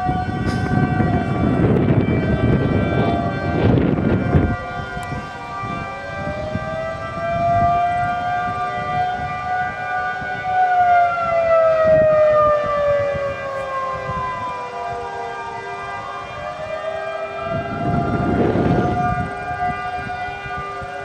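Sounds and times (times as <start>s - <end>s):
tornado warning sirens: 0.0s - 21.0s
wind buffeting microphone: 0.0s - 21.0s.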